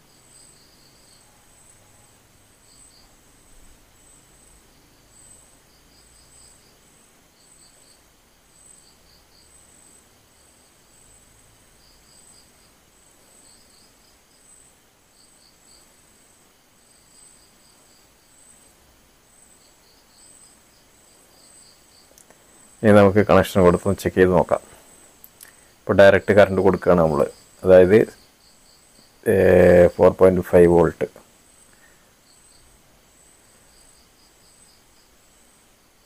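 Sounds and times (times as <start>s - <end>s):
insect trills: 0.0s - 36.0s
insects chirping: 0.0s - 36.0s.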